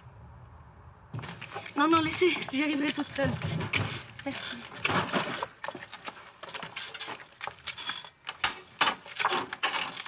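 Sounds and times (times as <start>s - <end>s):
objects knocking and clattering: 1.1s - 10.0s.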